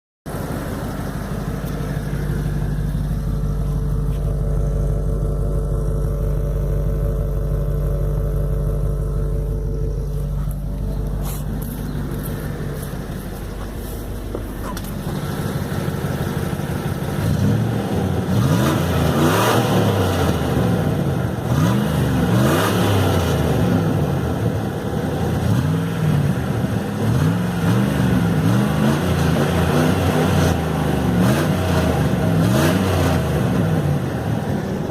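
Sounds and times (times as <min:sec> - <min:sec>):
car engine exhaust rumbling: 0:00.3 - 0:34.9.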